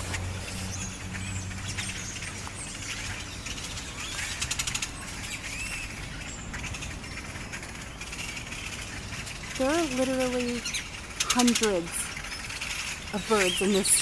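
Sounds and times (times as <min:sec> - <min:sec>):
fast rattling bird call: 0:00.0 - 0:14.0
flock of birds chirping: 0:00.0 - 0:14.0.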